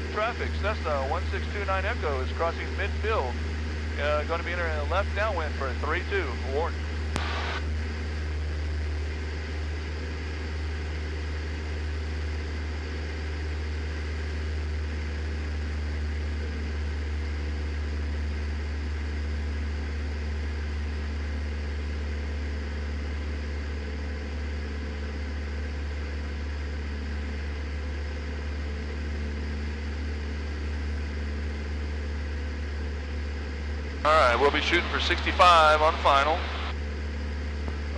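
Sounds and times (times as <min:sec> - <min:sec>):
airplane engine and propeller droning: 0:00.0 - 0:37.9.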